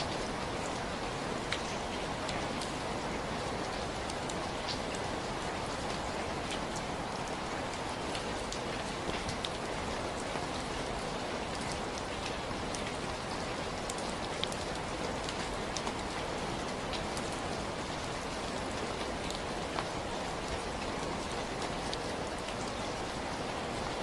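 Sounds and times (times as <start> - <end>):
raindrops ticking: 0.1 - 24.0.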